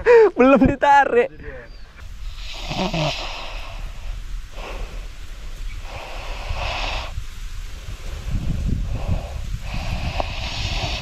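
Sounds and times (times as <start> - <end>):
person breathing heavily: 2.2 - 11.0.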